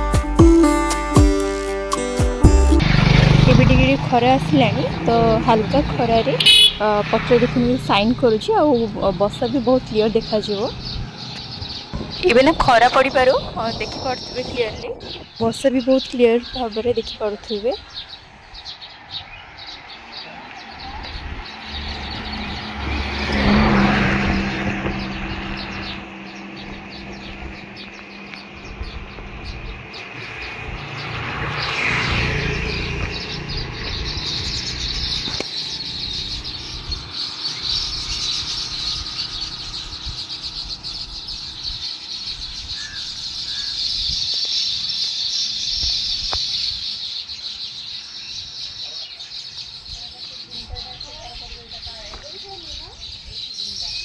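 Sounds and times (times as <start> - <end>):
motor vehicle passing: 2.5 - 53.4
birds chattering and chirping: 2.8 - 54.0.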